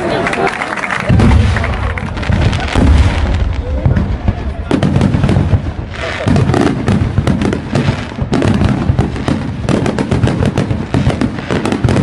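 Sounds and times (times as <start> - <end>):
crowd chatter: 0.0 - 12.0
firecrackers popping: 0.8 - 12.0.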